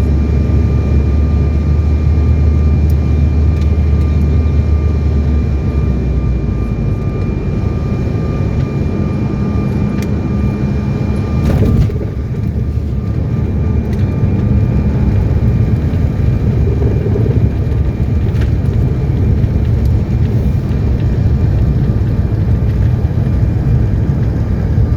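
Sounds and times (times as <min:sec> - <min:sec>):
jet airliner rumble: 0:00.0 - 0:24.9.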